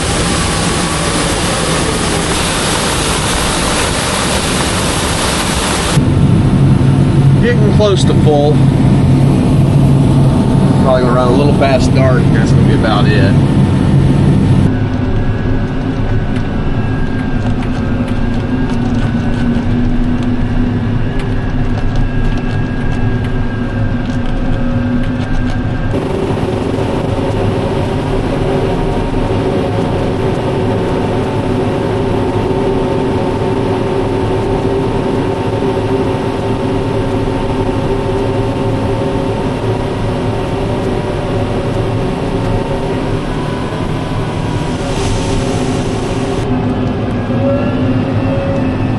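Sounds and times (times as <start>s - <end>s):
harvest machinery engine drone: 0.0s - 48.9s.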